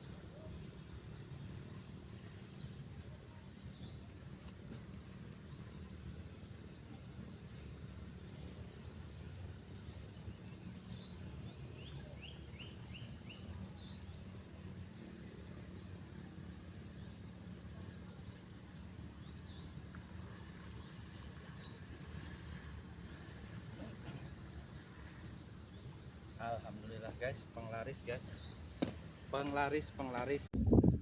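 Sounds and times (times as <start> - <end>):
low hum and hiss: 0.0 - 31.0.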